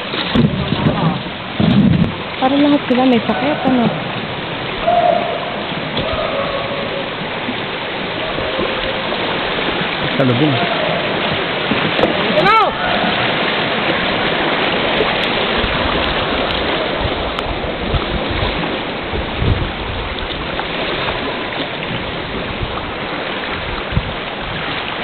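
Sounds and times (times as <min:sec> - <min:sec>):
low bumps: 0:00.0 - 0:24.8
river rapids rushing: 0:02.2 - 0:25.0.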